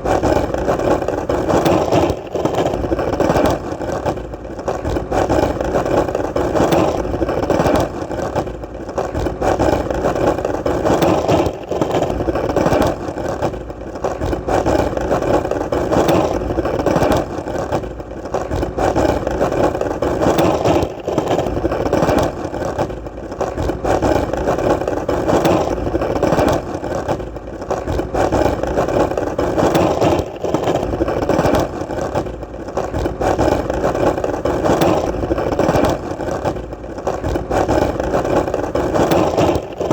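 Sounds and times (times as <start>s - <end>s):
skateboard wheels rolling: 0.0s - 39.9s.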